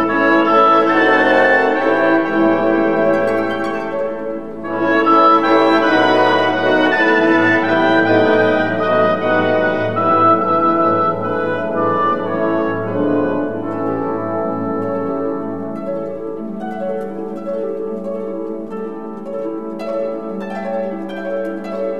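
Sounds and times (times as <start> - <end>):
held chords: 0.0 - 21.9.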